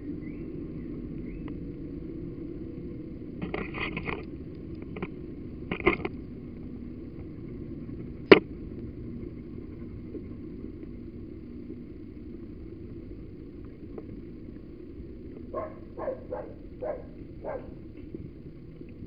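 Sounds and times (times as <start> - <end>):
muffled rumble: 0.0 - 19.0.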